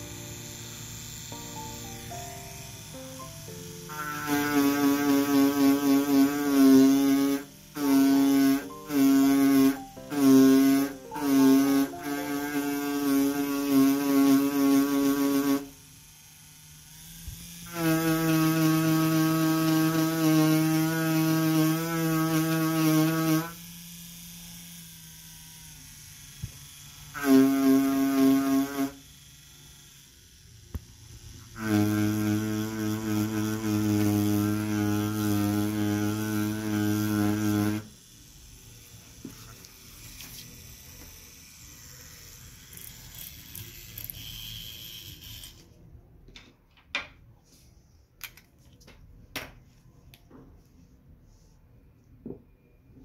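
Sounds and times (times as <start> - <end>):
tattoo machine motor hum: 0.0 - 45.8.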